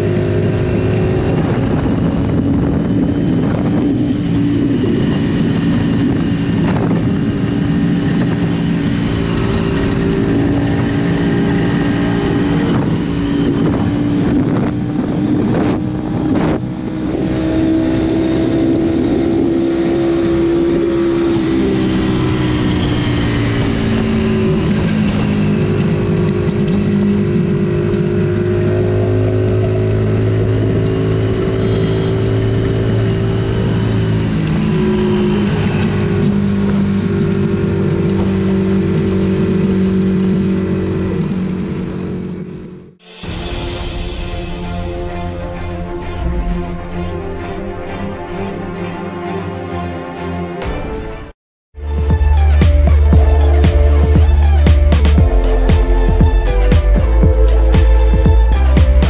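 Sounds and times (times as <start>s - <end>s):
motorcycle engine at high speed: 0.0s - 49.1s, 51.8s - 59.0s
heavy wind noise: 0.0s - 49.2s.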